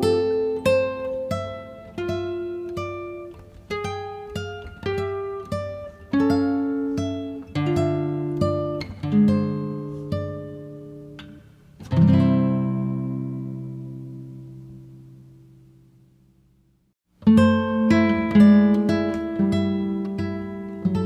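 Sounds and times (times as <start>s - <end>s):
acoustic guitar picking: 0.0s - 15.8s, 17.2s - 21.0s
guitar chord ringing: 0.0s - 15.8s, 17.2s - 21.0s.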